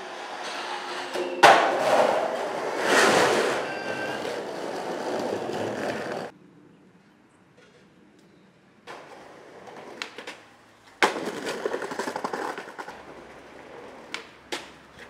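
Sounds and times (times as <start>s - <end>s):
skateboard clacking on metal rail: 0.0s - 6.3s, 8.9s - 15.0s
skateboard grinding rail: 0.0s - 6.3s, 8.9s - 15.0s.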